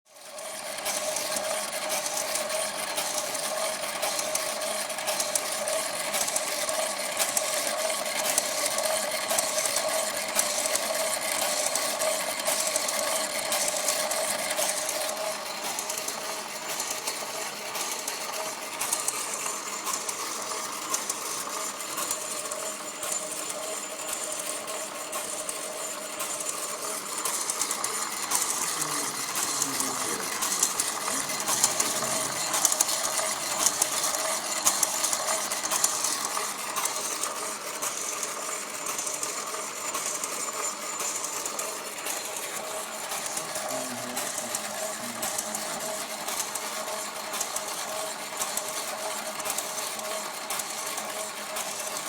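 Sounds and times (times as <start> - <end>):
winding machine motor tone: 0.1 - 52.0
fast fine mechanical rattle: 0.2 - 52.0.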